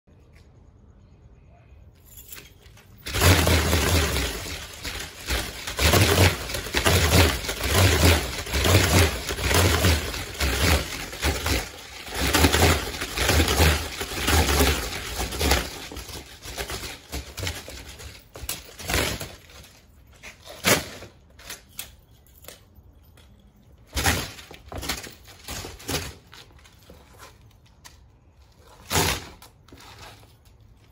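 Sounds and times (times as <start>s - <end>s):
chain clinking and clattering: 1.9s - 27.7s, 29.6s - 30.9s.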